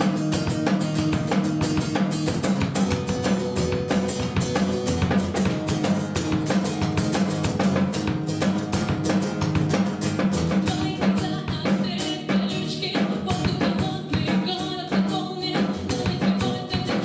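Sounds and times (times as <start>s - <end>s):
guitar chords: 0.0s - 14.9s
drum kit beat: 0.0s - 17.0s.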